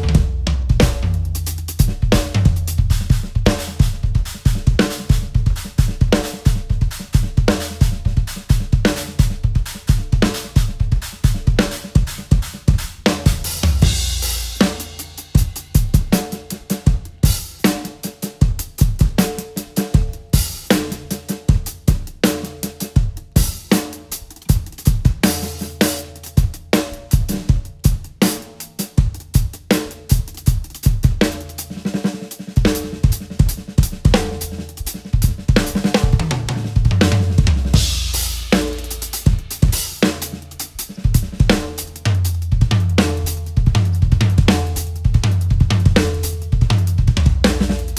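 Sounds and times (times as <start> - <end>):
fast drum strokes: 0.0 - 47.9.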